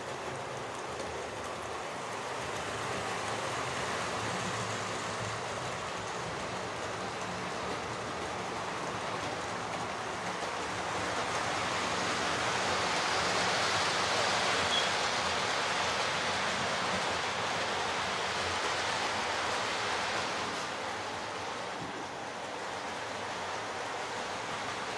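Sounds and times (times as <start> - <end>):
model trains whirring on tracks: 0.0 - 24.9.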